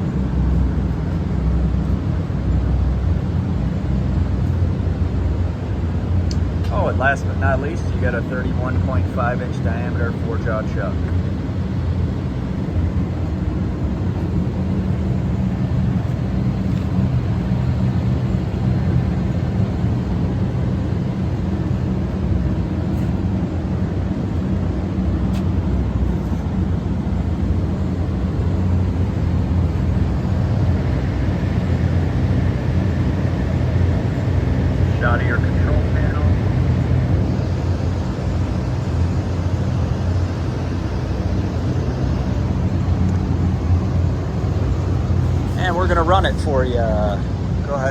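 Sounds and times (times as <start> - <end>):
low mechanical drone: 0.0 - 47.9.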